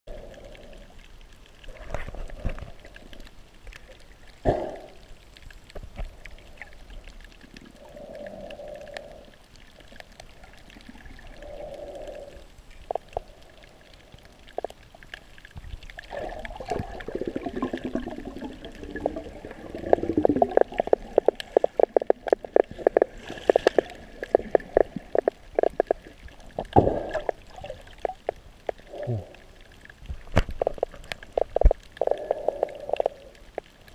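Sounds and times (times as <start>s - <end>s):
water gurgling and sloshing underwater: 0.1s - 33.9s.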